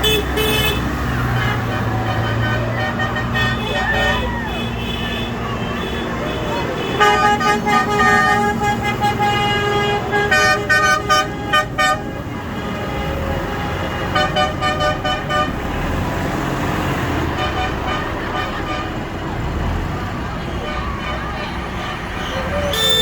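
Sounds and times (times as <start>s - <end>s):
tractor engines rumbling: 0.0s - 23.0s
tractor horns tooting: 0.0s - 23.0s.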